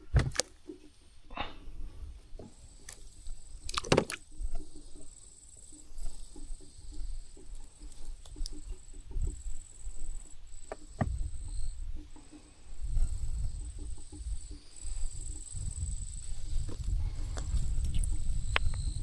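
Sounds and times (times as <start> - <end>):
insect trill: 2.7 - 19.0.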